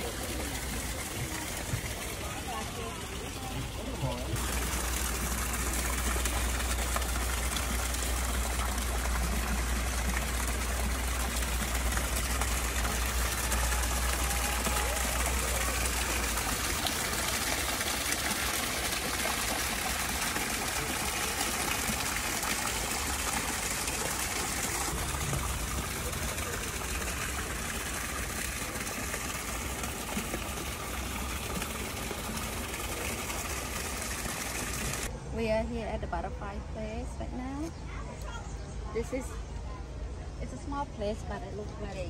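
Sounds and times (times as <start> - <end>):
running water rushing: 0.0 - 35.1.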